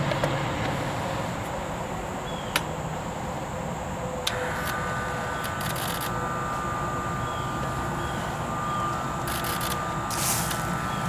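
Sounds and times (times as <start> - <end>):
air pump whine: 0.0 - 11.0
mechanical hum: 0.0 - 11.0.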